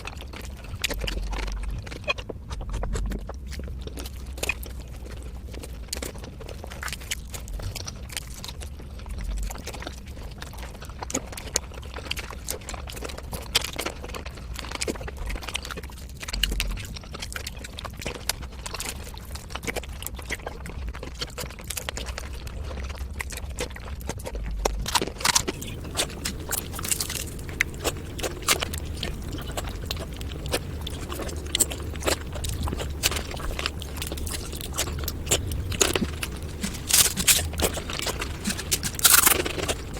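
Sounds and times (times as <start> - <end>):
fast chewing and lip-smacking: 0.0 - 39.9.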